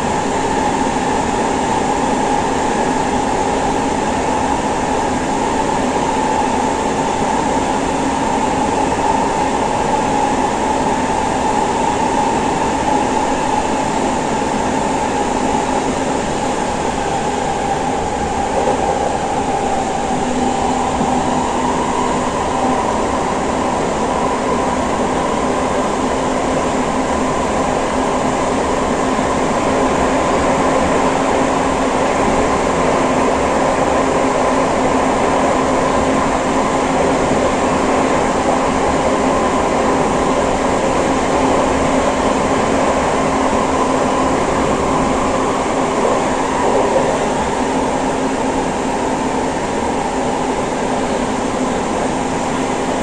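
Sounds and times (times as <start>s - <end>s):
constant train whine: 0.0s - 53.0s
train wheels rumbling on rails: 0.0s - 53.0s.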